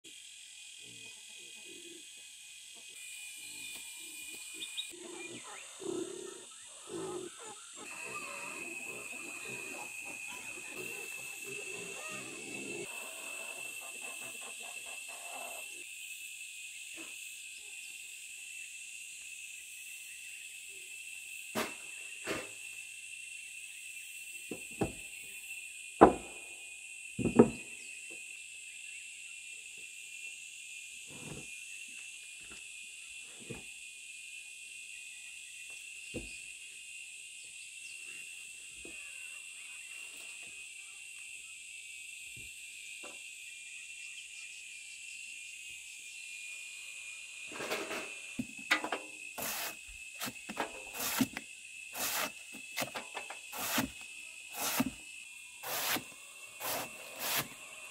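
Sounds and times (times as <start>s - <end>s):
insects chirring: 0.1s - 57.9s.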